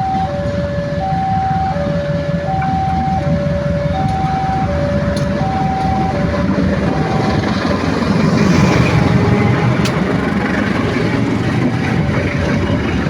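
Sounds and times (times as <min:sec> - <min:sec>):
passing train rumble: 0:00.0 - 0:13.0.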